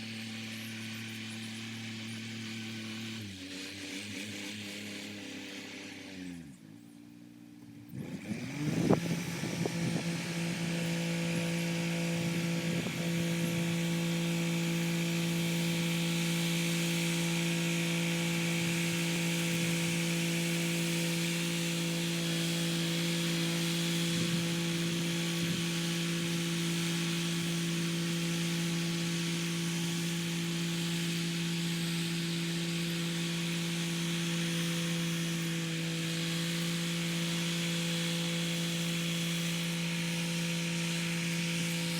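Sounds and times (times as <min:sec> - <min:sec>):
tractor diesel engine running: 0:06.5 - 0:41.9.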